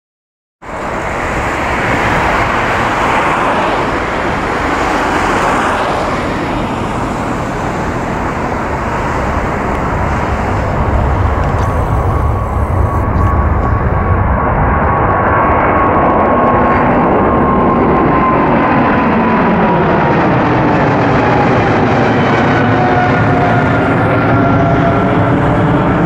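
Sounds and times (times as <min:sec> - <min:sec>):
jet airliner roar: 0:00.6 - 0:26.0.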